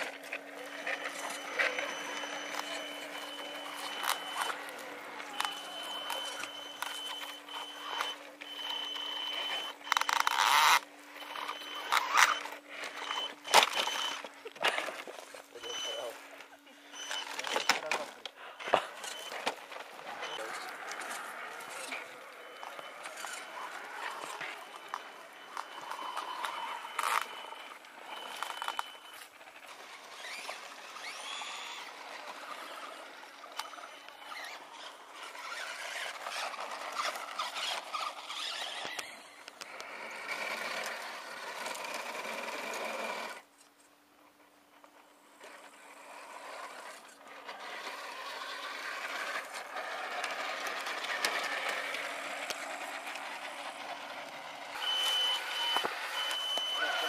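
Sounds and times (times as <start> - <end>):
electric motors whining: 0.0 - 43.6, 44.8 - 57.0
tyres churning dirt: 0.0 - 57.0.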